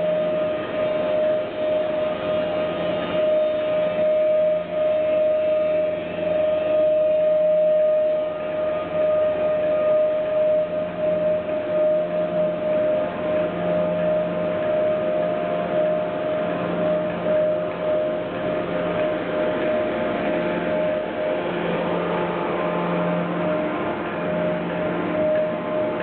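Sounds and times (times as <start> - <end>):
mechanical whine: 0.0 - 26.0.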